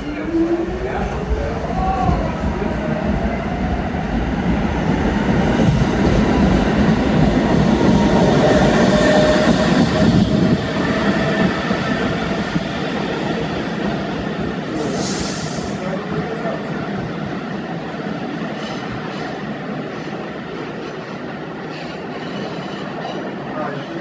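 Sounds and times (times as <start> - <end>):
subway train rumbling past: 0.0 - 24.0.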